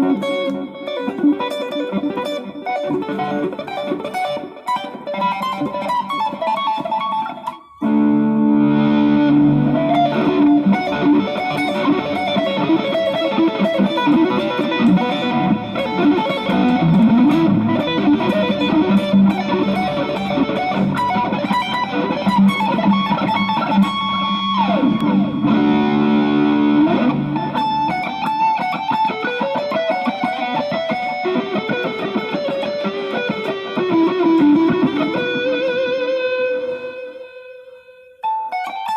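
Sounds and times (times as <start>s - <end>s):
electric guitar playing: 0.0s - 38.9s.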